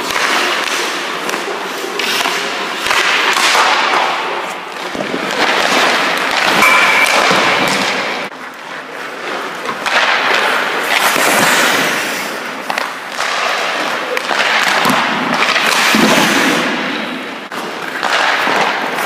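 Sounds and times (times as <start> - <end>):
skate blades scraping ice: 0.0 - 19.0.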